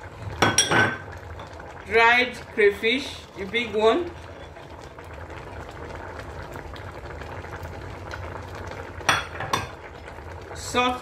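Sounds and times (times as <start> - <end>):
porridge bubbling in a pot: 0.0 - 11.0.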